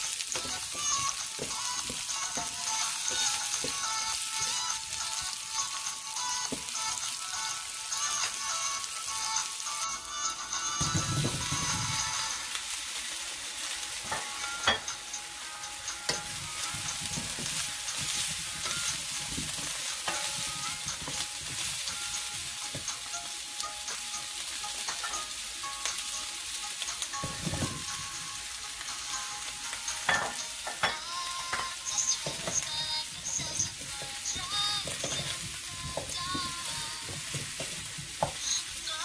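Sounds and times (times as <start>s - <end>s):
vegetables sizzling in a frying pan: 0.0s - 39.0s.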